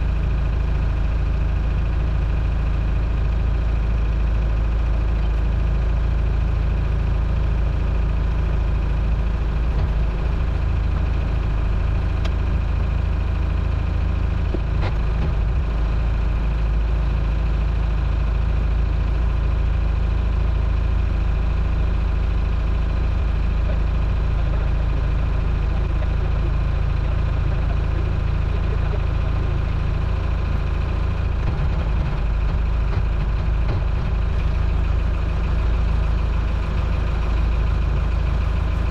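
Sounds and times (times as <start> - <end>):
boat engine idling: 0.0 - 38.9.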